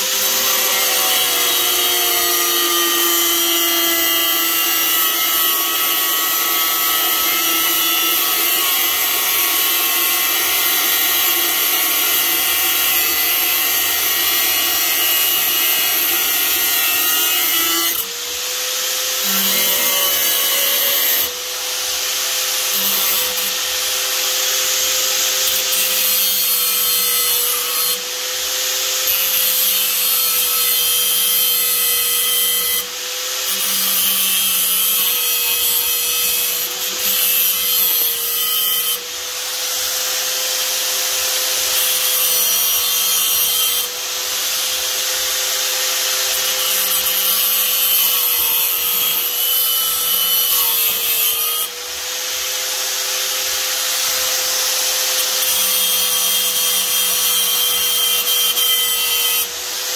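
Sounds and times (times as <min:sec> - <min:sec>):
angle grinder cutting steel: 0:00.0 - 0:59.9.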